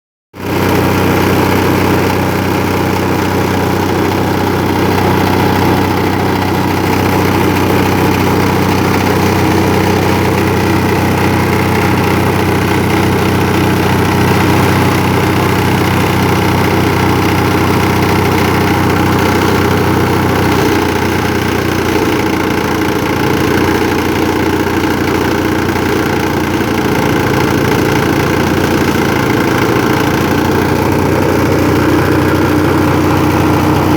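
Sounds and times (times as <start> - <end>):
electric grass chopper humming: 0.4 - 33.9.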